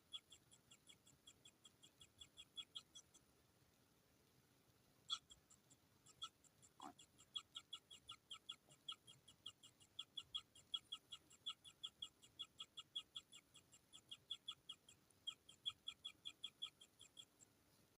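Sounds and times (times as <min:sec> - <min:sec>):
bird chicks begging chirps: 0:00.0 - 0:03.2, 0:05.1 - 0:17.4.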